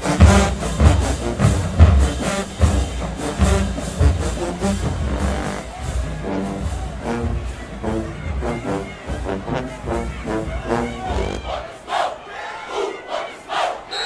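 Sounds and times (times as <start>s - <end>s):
heavy drum beat: 0.0s - 11.6s
marching band brass: 0.0s - 14.0s.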